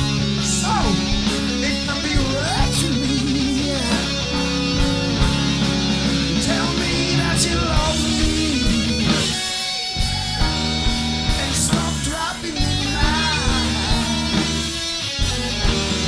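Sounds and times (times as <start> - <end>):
blues-rock band recording: 0.0 - 16.0
electric guitar lead lines: 0.0 - 16.0.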